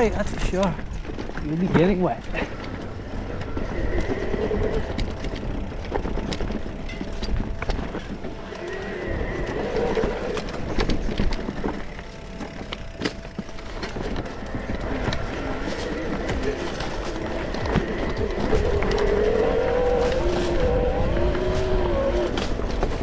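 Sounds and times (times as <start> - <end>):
bike clicks and rattles: 0.0 - 23.0
tyres rumbling on dirt: 0.0 - 23.0
wind on microphone: 2.4 - 23.0.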